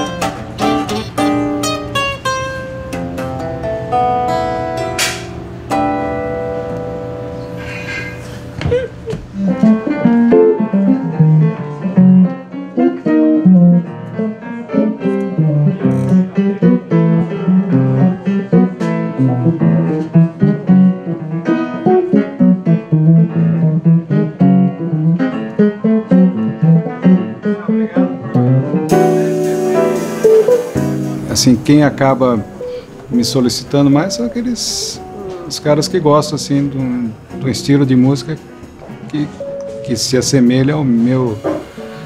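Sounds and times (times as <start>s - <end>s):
electric guitar jazz line: 0.0s - 42.0s.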